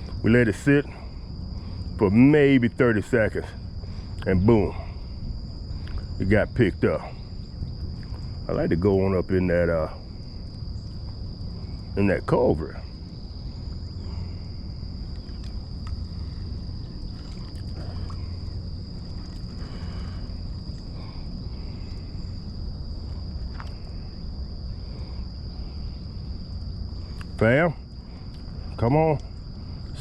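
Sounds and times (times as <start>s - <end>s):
insects droning: 0.0s - 30.0s
low outdoor rumble: 0.0s - 30.0s.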